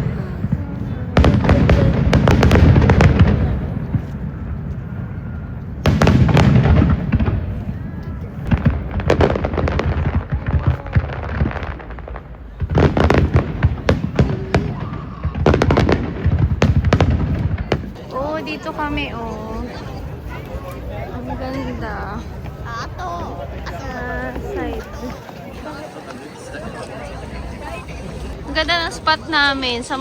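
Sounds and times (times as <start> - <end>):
fireworks booms and crackles: 0.0 - 30.0.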